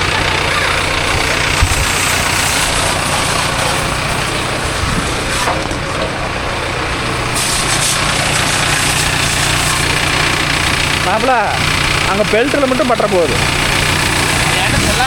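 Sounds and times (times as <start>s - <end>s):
water jet spraying hiss: 0.0s - 5.6s, 7.2s - 15.0s
engine idling: 0.0s - 15.0s.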